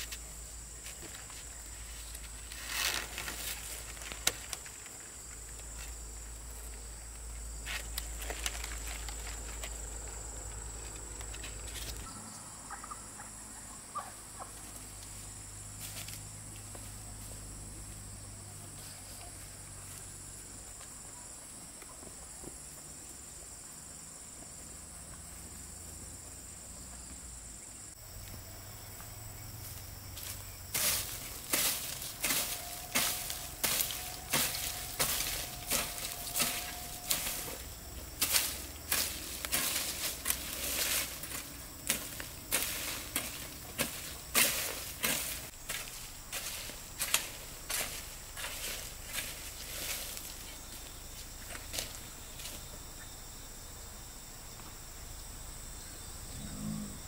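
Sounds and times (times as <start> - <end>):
rustles: 0.0 - 53.2
insects buzzing high-pitched: 0.0 - 57.0.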